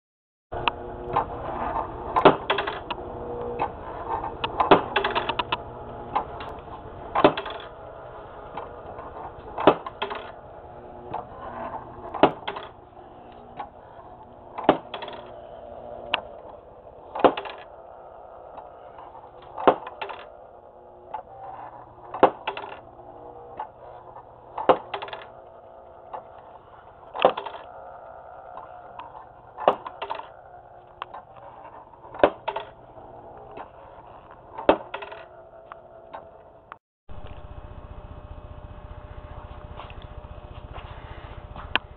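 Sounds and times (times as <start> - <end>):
steady hum: 0.5 - 41.9.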